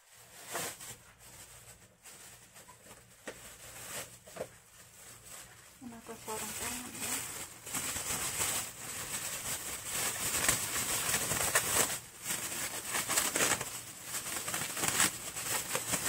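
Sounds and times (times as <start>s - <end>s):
plastic glove crinkling: 0.0s - 16.0s.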